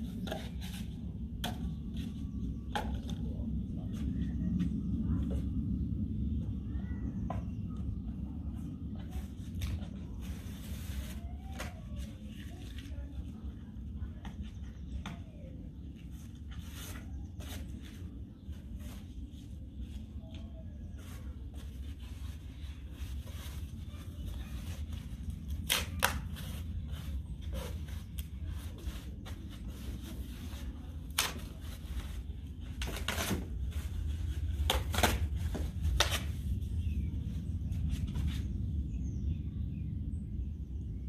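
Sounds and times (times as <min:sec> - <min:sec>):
wind rumble on microphone: 0:00.0 - 0:25.6, 0:33.6 - 0:41.0.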